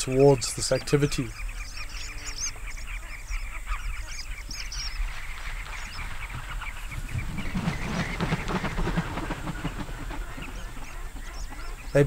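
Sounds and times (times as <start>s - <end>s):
lower-pitched bird calls: 0.0s - 12.0s.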